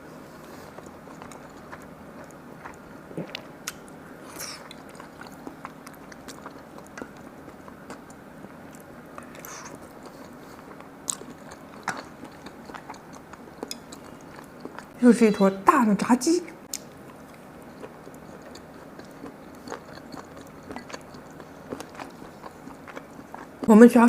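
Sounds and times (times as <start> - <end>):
faint steady hum: 0.0 - 24.0
person chewing food: 0.2 - 15.0, 16.7 - 23.7
food crunching: 0.4 - 15.0, 16.7 - 23.7.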